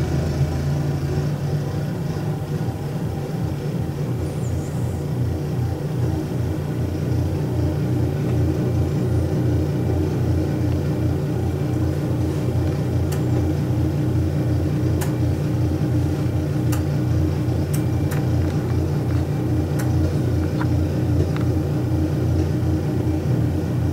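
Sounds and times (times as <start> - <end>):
snow blower engine rumbling: 0.0 - 23.9.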